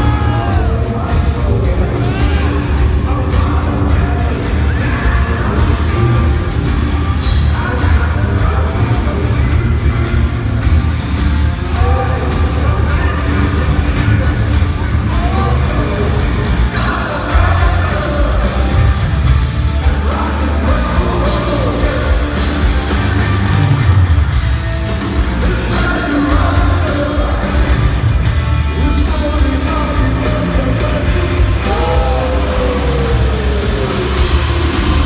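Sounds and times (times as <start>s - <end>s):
person singing: 0.0s - 10.6s, 11.7s - 23.8s, 25.4s - 35.0s
heavy rock band playing live: 0.0s - 35.0s.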